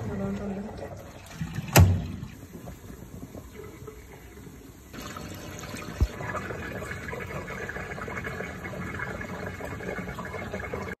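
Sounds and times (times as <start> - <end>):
water gushing into floor drain: 0.0 - 11.0.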